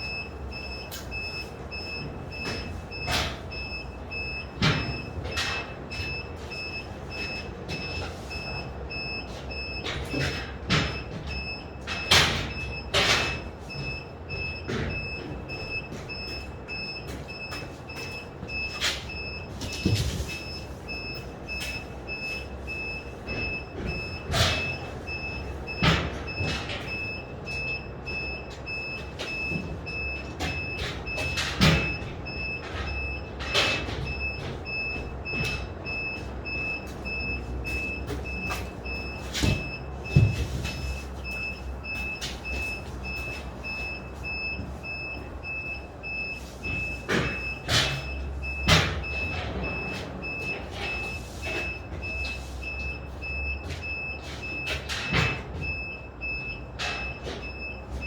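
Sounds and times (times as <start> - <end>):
reversing alarm beeping: 0.0 - 58.0.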